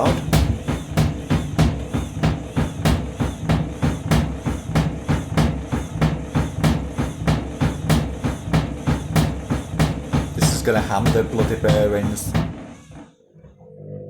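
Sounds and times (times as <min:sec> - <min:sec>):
washing machine drum banging: 0:00.0 - 0:12.8.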